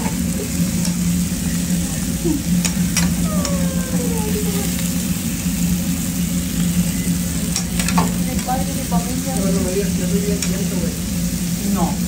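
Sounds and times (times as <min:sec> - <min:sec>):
steady low hum: 0:00.0 - 0:12.0
steak sizzling on griddle: 0:00.0 - 0:12.0.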